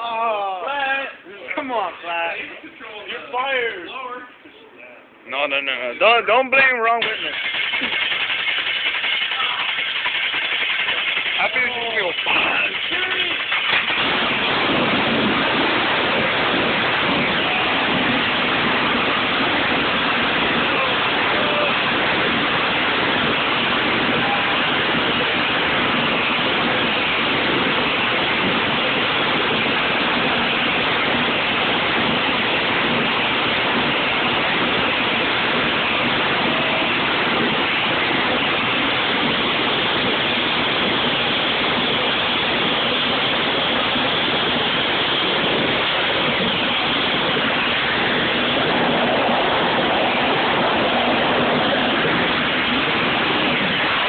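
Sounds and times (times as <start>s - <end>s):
engine roaring: 7.0s - 54.0s.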